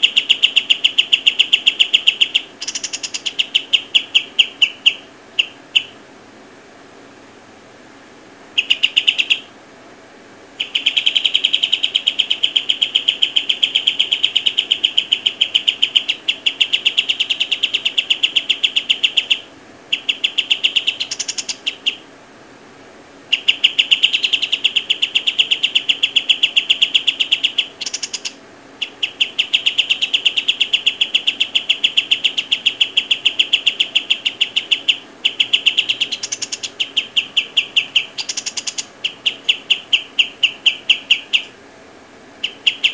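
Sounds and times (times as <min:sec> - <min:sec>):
bird chirping rapid high notes: 0:00.0 - 0:06.0, 0:08.6 - 0:09.5, 0:10.6 - 0:22.0, 0:23.3 - 0:41.6, 0:42.4 - 0:42.9.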